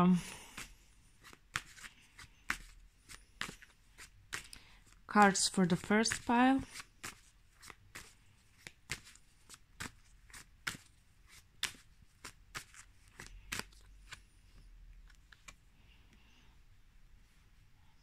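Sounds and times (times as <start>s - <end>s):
cards being shuffled: 0.4s - 15.6s.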